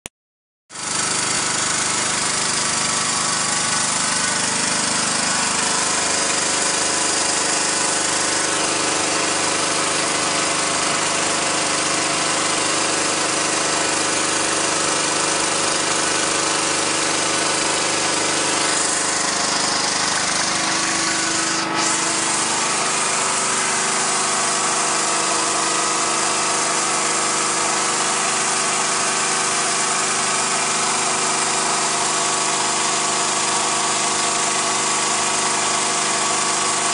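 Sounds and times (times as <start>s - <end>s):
generator engine running: 0.7s - 36.9s.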